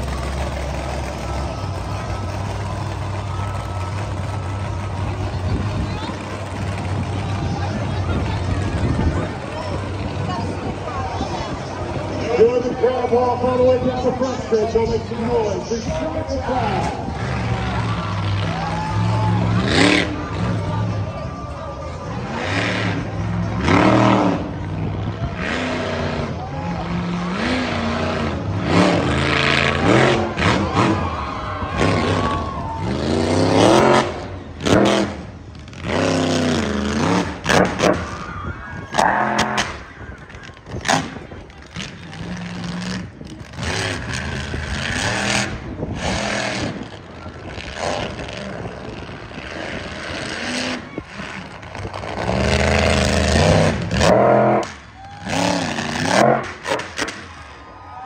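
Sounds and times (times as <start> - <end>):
monster truck engine revving: 0.0 - 57.6.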